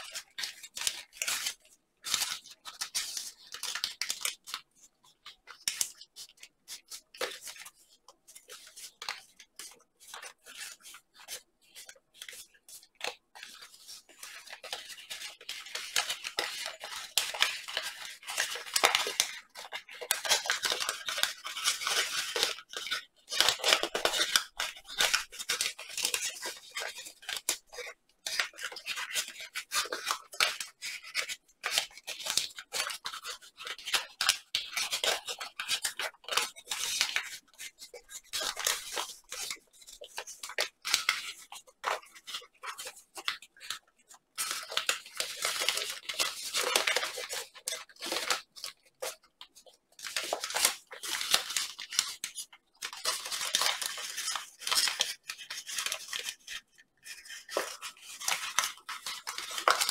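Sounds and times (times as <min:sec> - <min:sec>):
paper crinkling and crackling: 0:00.0 - 0:59.9.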